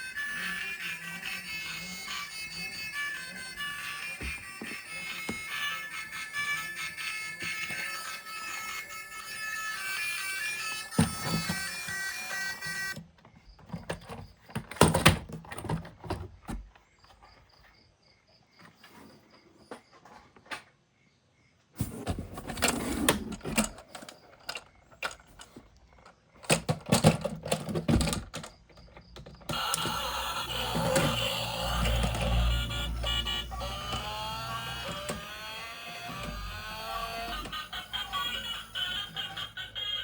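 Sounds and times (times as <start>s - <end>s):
plastic toy vehicles rattling: 0.0s - 17.3s, 21.8s - 40.0s.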